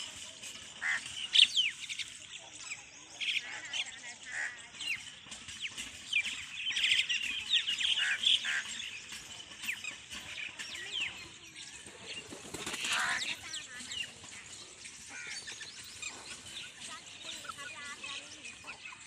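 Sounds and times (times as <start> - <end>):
birds chirping and calling: 0.0 - 19.0.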